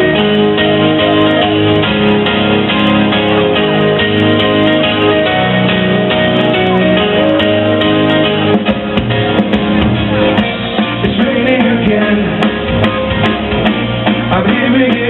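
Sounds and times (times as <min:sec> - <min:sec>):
guitar: 0:00.0 - 0:15.0
keyboard: 0:00.0 - 0:15.0
live rock band playing: 0:00.0 - 0:15.0.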